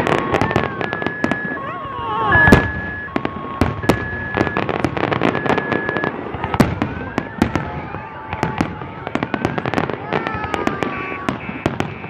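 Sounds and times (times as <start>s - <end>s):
fireworks bangs and cracks: 0.0s - 12.0s
fireworks crackle: 0.0s - 12.0s
fireworks whistling: 0.0s - 12.0s.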